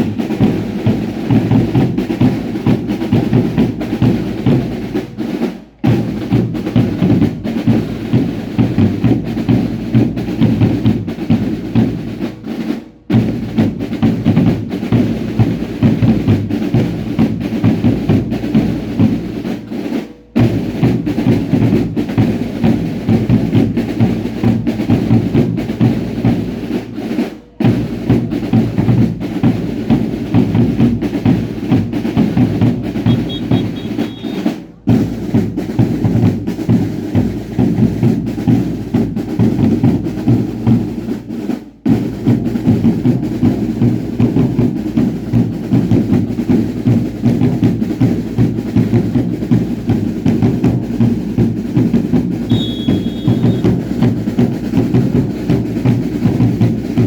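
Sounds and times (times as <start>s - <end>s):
drums beating fast rhythm: 0.0s - 57.0s.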